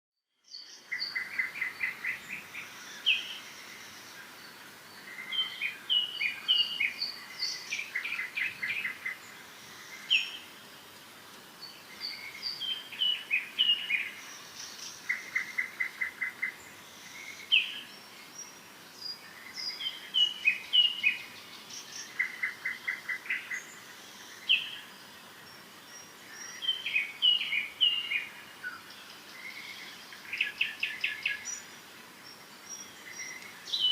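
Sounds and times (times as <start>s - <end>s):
faint steady hiss: 0.3s - 33.9s
songbirds chirping and singing: 0.4s - 33.9s.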